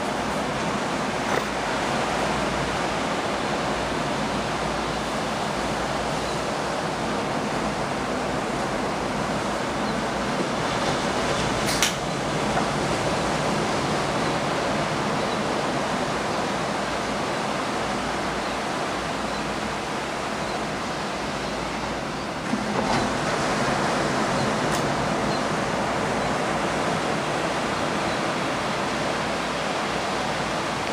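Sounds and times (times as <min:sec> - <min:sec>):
ocean surf washing on beach: 0:00.0 - 0:30.9.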